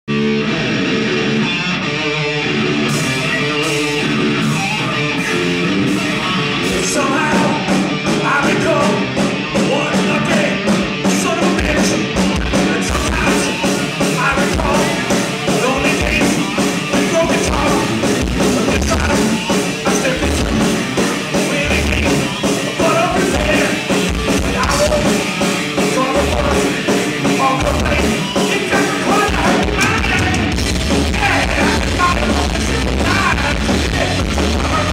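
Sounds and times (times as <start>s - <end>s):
electric guitars: 0.1s - 34.9s
drums and cymbals: 2.9s - 34.9s.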